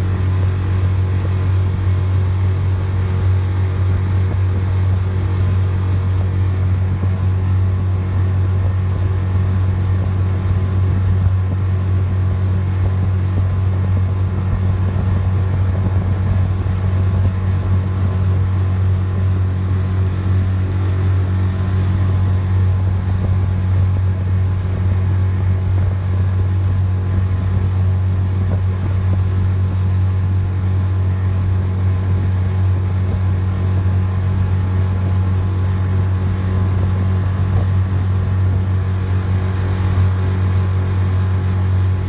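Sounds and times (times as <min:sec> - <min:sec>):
outboard engine running: 0:00.0 - 0:42.0.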